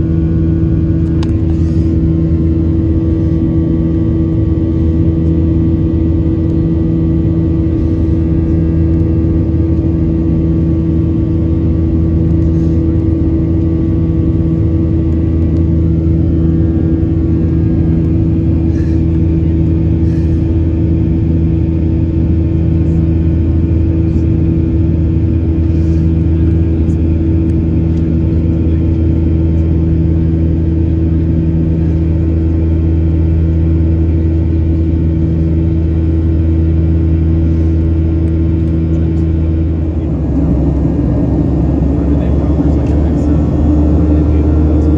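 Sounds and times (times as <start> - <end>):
airplane cabin drone: 0.0 - 44.9.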